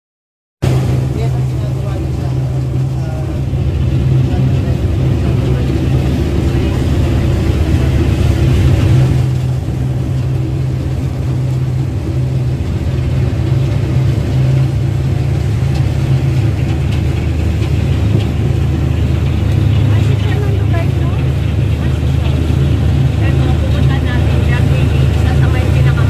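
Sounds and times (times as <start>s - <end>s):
motorboat engine running: 0.6s - 26.0s.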